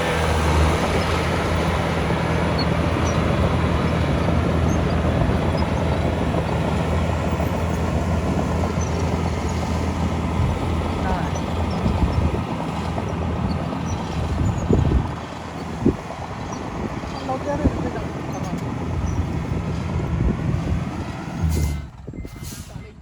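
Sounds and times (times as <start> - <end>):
diesel engine drone: 0.0 - 23.0.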